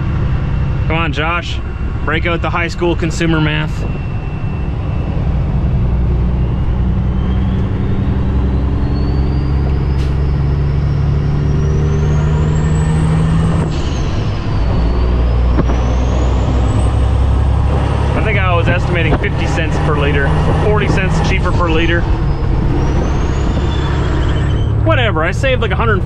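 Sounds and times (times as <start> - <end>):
diesel truck engine accelerating: 0.0 - 26.0
high turbo whistle: 0.0 - 26.0.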